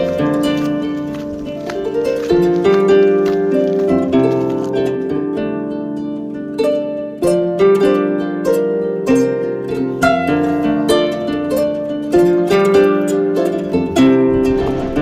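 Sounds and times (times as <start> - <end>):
harp-like plucked melody: 0.0 - 15.0.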